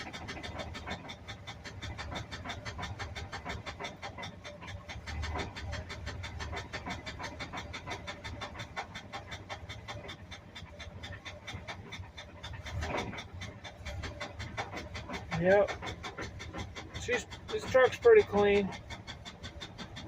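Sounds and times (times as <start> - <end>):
engine running with fast knocking: 0.0 - 20.0.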